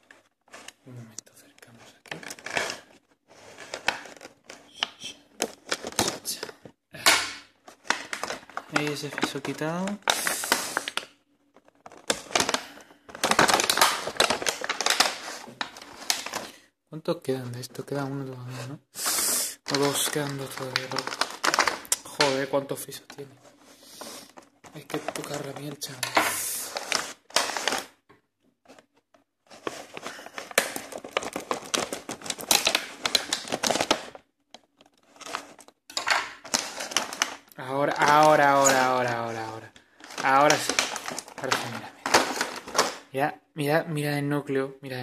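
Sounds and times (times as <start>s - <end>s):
plastic packaging crinkling: 0.0s - 6.6s, 7.5s - 16.6s, 19.2s - 28.0s, 28.7s - 43.1s.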